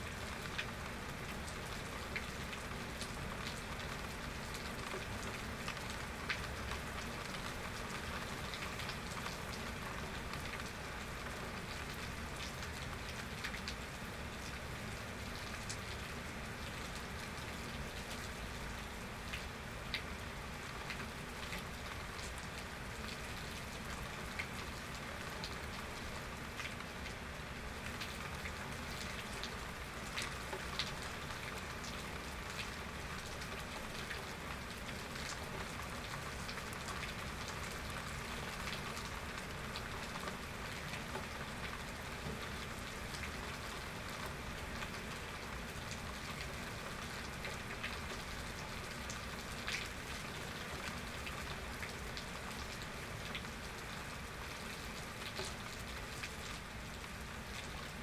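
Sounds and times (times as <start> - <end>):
raindrops ticking on surfaces: 0.0 - 58.0
steady rain falling: 0.0 - 58.0.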